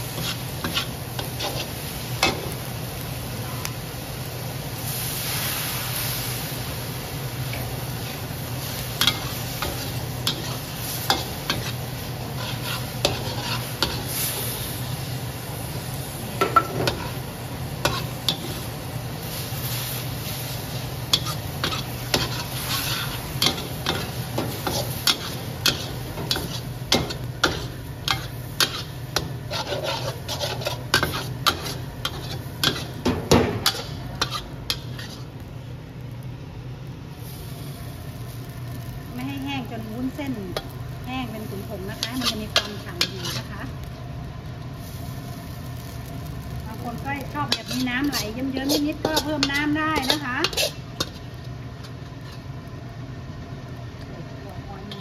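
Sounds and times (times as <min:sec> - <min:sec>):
food sizzling in a wok: 0:00.0 - 0:55.0.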